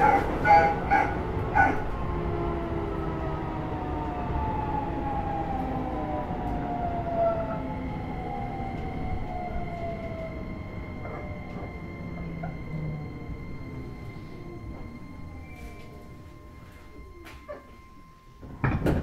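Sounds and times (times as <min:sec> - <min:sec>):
steady high tone: 0:00.0 - 0:18.9
electric train motors whining: 0:00.0 - 0:19.0
wheels rumbling on rail: 0:00.0 - 0:19.0.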